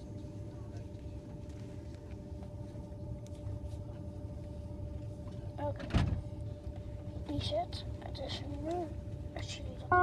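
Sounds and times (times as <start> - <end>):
faint steady whine: 0.0 - 10.0
train carriage low rumble: 0.0 - 10.0.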